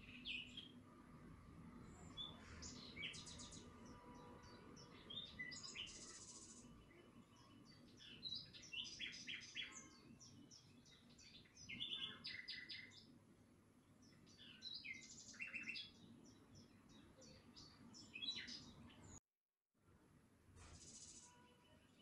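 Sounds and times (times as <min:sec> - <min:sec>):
faint bird chirping: 0:00.0 - 0:13.2, 0:13.8 - 0:19.2, 0:20.6 - 0:22.0.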